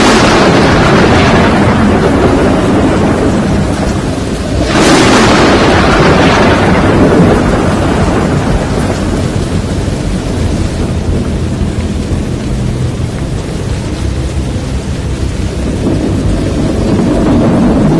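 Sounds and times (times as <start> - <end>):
loud thunder claps: 0.0 - 14.3, 15.4 - 17.9
heavy rain: 0.0 - 17.9.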